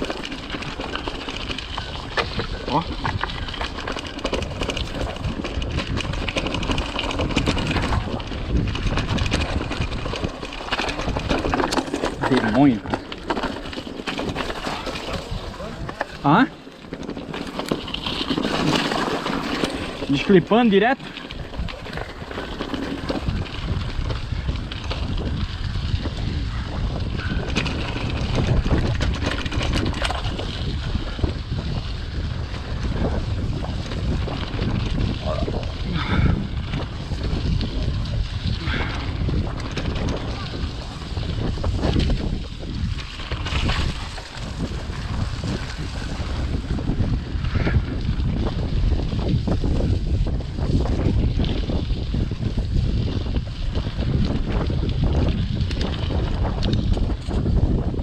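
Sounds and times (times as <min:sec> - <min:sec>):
bike rattling clicks: 0:00.0 - 0:58.0
bike tyres rolling on trail: 0:00.0 - 0:58.0
wind on microphone: 0:00.0 - 0:58.0.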